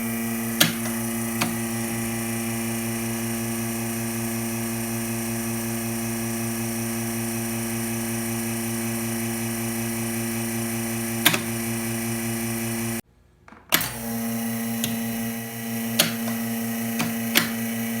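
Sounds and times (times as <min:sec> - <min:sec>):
vacuum pump electric hum: 0:00.0 - 0:13.0, 0:13.7 - 0:18.0.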